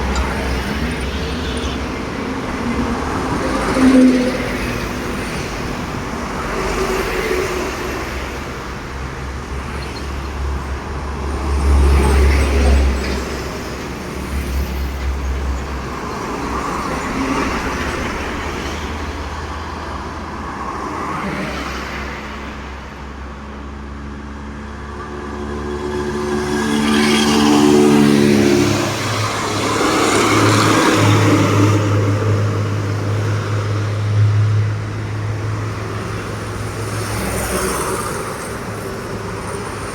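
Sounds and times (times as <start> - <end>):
diesel trucks rumbling past: 0.0 - 39.9.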